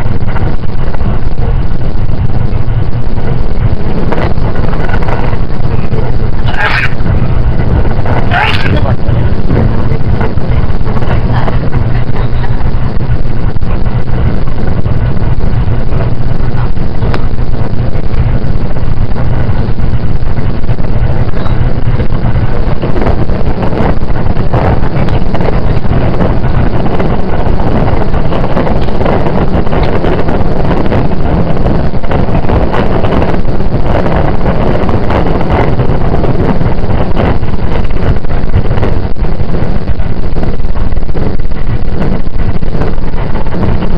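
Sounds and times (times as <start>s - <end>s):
constant low hum: 0.0s - 43.9s
train wheels rumbling on rail: 0.0s - 43.9s.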